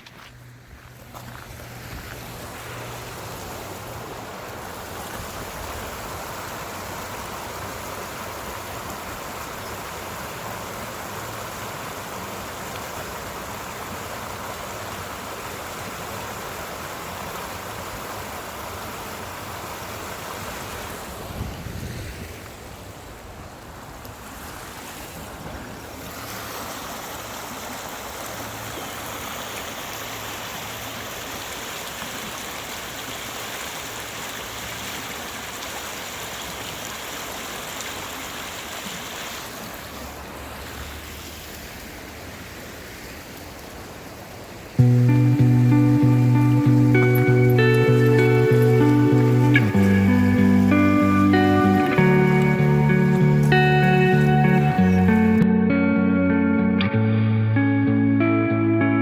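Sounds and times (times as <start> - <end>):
small waterfall rushing: 0.0 - 55.4.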